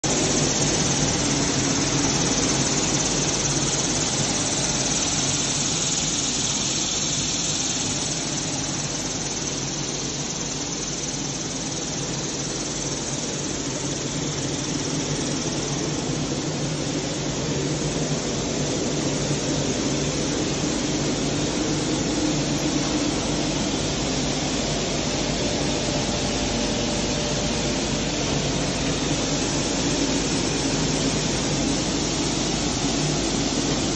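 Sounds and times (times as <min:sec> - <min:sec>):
machine humming and hissing: 0:00.0 - 0:33.9.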